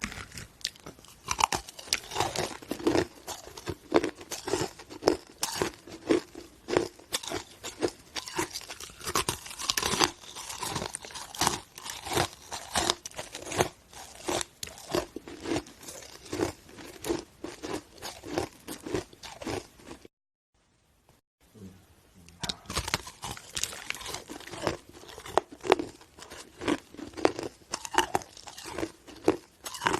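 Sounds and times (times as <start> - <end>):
chewing ice crunches: 0.0 - 20.1, 22.4 - 29.9.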